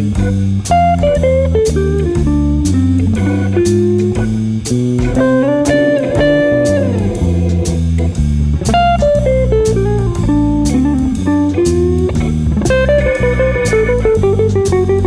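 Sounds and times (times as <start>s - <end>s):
bass notes: 0.0s - 15.0s
guitar melody: 0.0s - 15.0s
steady beat: 0.0s - 15.0s.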